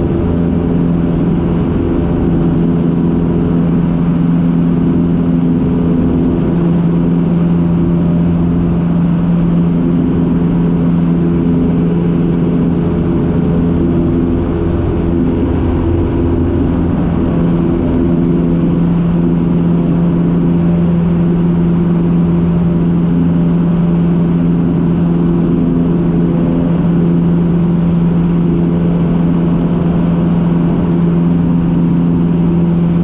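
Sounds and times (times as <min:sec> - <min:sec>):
light aircraft engine droning: 0:00.0 - 0:33.0.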